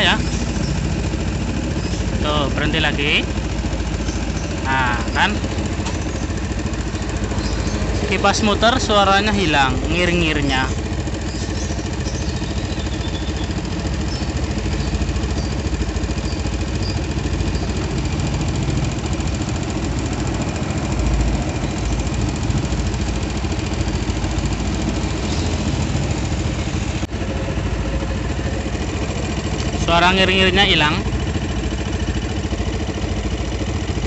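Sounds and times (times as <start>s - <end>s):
motorcycle engine idling: 0.0s - 34.0s
radiator fan running: 0.0s - 34.0s.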